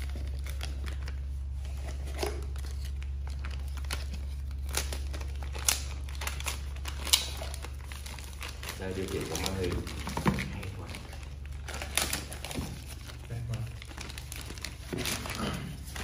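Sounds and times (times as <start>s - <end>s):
plastic bag crinkling: 0.0s - 16.0s
steady low hum: 0.0s - 16.0s.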